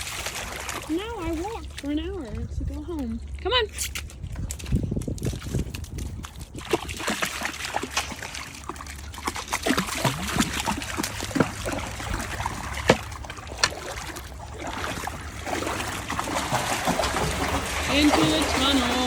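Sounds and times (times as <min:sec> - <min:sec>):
footsteps wading through water: 0:00.0 - 0:19.0
shallow water trickling: 0:00.0 - 0:19.0.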